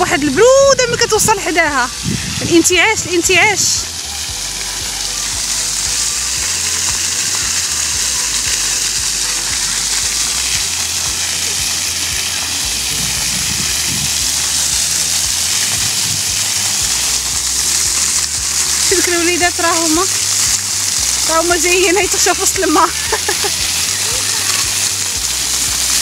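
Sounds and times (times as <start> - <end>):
water jets spraying onto pavement: 0.0 - 26.0.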